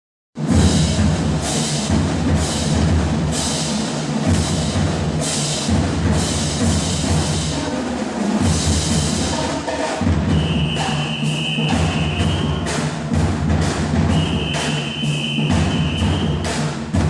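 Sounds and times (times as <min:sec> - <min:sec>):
drum-heavy band music: 0:00.4 - 0:17.0.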